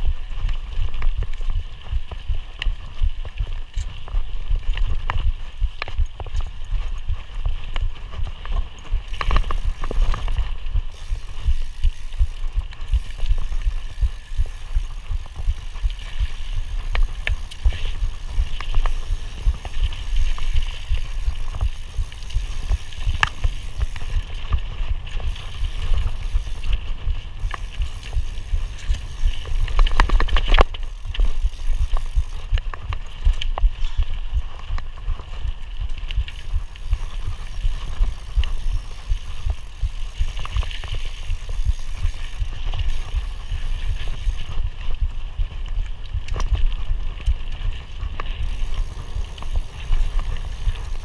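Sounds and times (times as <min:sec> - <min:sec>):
bike rattling over bumps: 0:00.0 - 0:51.0
mountain bike rumbling on dirt trail: 0:00.0 - 0:51.0.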